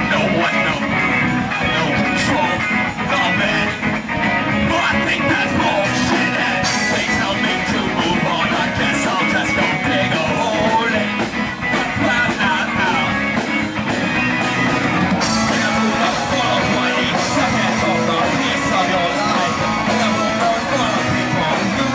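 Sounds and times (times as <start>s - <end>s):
punk rock band with guitar: 0.0s - 21.9s.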